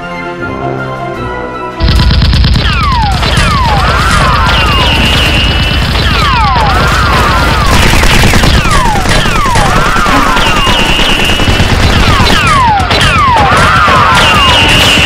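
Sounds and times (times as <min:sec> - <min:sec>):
automatic gunfire: 0:01.8 - 0:15.0.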